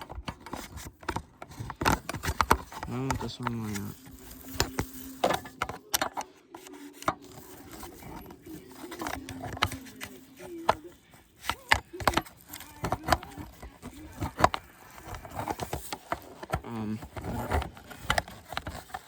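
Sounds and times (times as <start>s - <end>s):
hard plastic parts clicking together: 0.0s - 19.0s.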